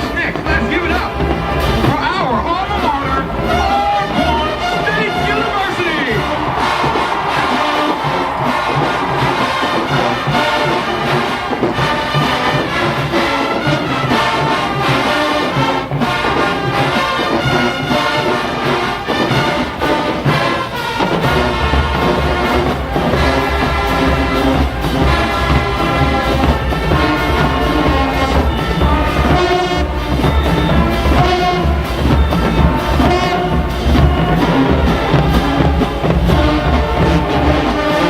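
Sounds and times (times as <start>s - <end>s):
drumline beat: 0.0s - 38.0s
trumpets and trombones: 0.0s - 38.0s.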